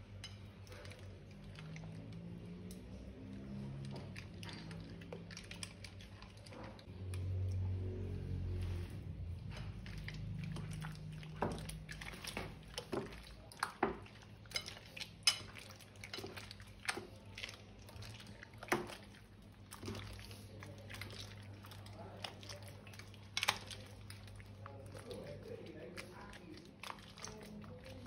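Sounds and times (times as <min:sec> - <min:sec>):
faint low hum: 0:00.0 - 0:28.0
slime squishing: 0:00.0 - 0:28.0.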